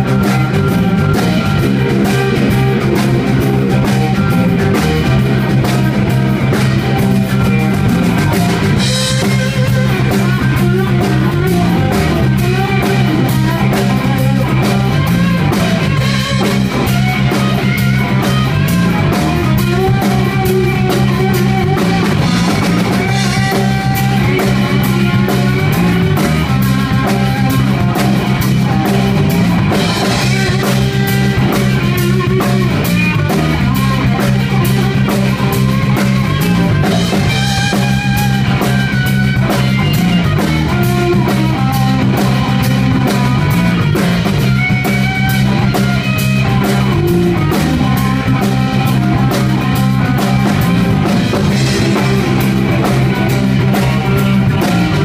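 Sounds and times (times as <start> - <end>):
drum kit: 0.0 - 55.0
electric guitar melody: 0.0 - 55.0
sustained low notes: 0.0 - 55.0.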